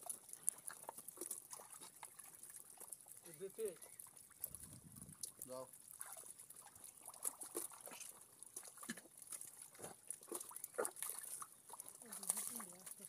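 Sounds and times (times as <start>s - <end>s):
mud and water squelching: 0.0s - 13.0s.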